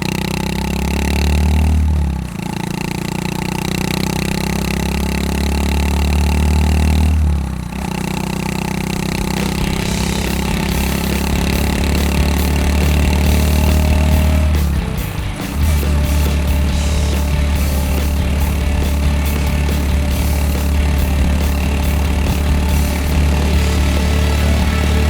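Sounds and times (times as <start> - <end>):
motorcycle engine exhaust: 0.0 - 25.0.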